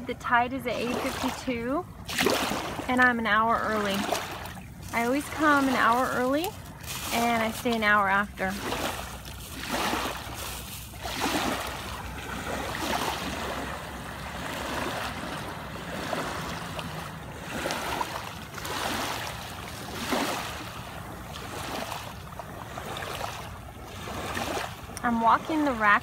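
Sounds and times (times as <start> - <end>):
small waves washing over sand: 0.7 - 26.0
rubber boots splashing in water: 2.1 - 2.9, 3.7 - 25.7.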